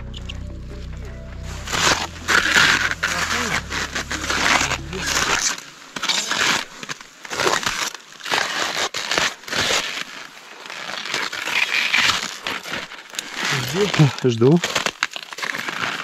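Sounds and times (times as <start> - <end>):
rustling and crunching: 0.0 - 16.0.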